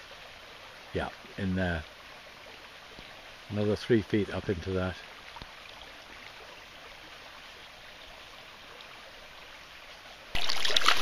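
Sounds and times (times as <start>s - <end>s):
river flowing over stones: 0.0s - 11.0s.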